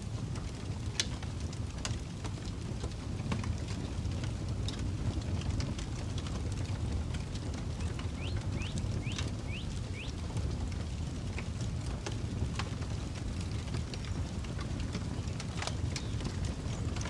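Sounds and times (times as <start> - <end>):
campfire crackling and popping: 0.0 - 17.0
low rumble of wind: 0.0 - 17.0.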